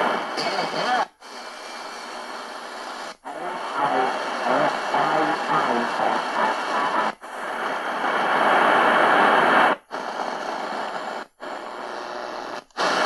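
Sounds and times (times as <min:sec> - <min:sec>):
shortwave radio static hissing: 0:00.0 - 0:13.0.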